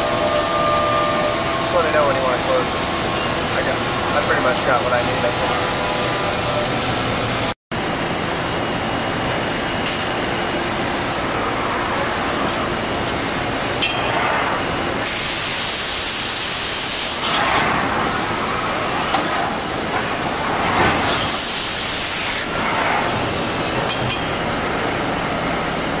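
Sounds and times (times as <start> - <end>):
coolant hissing: 0.0 - 7.5, 10.7 - 26.0
machining center running: 0.0 - 26.0.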